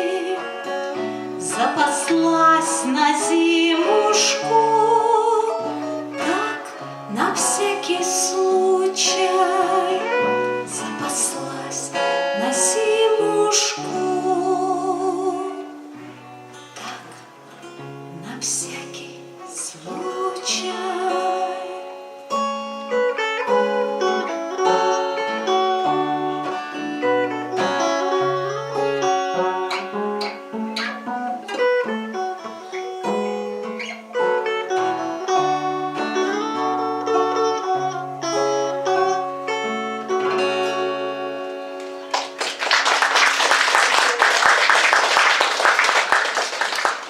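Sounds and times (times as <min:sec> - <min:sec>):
plucked guitar melody: 0:00.0 - 0:43.1.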